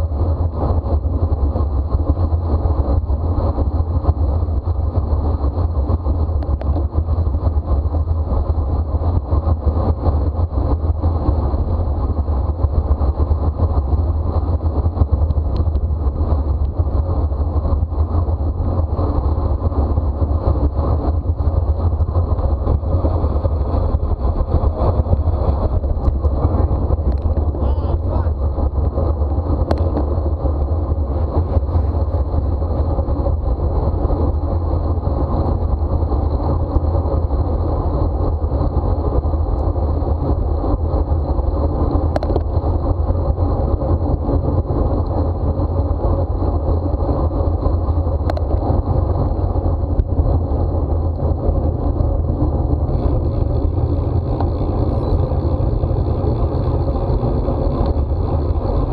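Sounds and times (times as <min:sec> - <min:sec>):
bicycle tyre and road noise: 0:00.0 - 0:58.9
wind buffeting microphone: 0:00.0 - 0:58.9.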